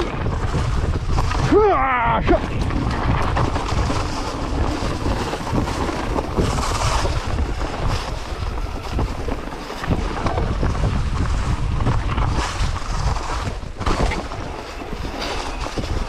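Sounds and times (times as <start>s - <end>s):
jumbled rumble and rattle: 0.0s - 16.0s
wind buffeting microphone: 0.0s - 16.0s.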